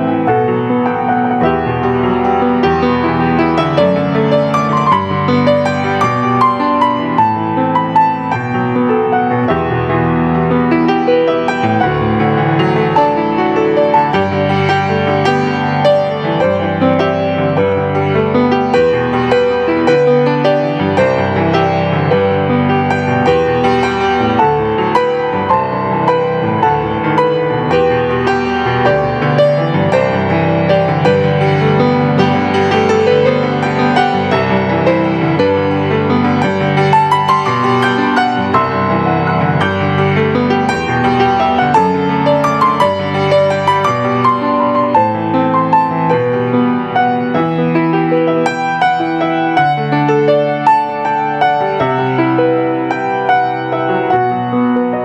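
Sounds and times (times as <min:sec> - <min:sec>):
slow piano piece: 0:00.0 - 0:55.0.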